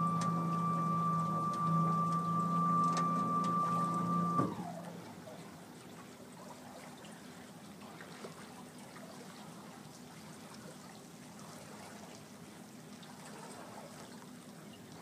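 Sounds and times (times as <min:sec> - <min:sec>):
water lapping and trickling: 0:00.0 - 0:15.0.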